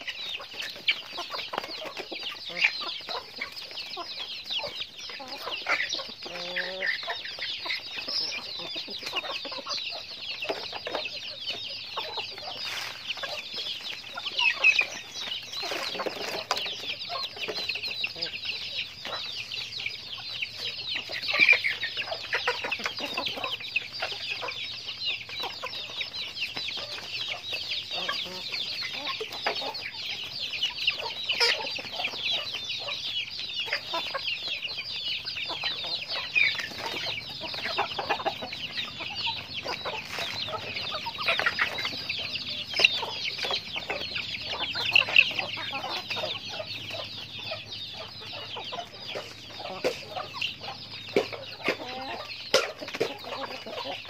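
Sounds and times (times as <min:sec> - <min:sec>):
chickens cheeping: 0:00.0 - 0:54.0.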